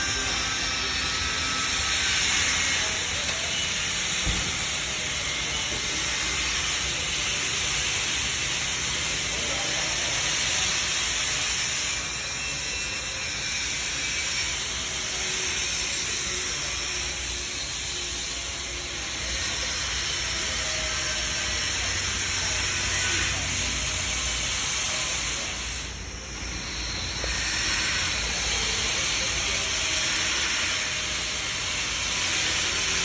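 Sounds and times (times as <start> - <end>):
laser welding machine hiss: 0.0 - 33.0.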